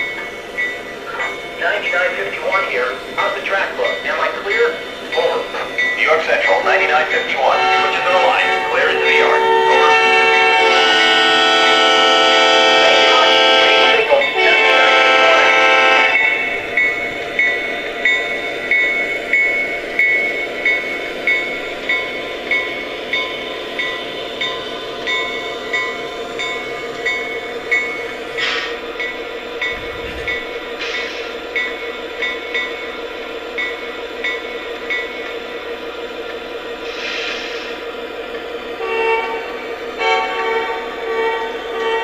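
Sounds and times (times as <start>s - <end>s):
locomotive bell ringing: 0.0s - 35.6s.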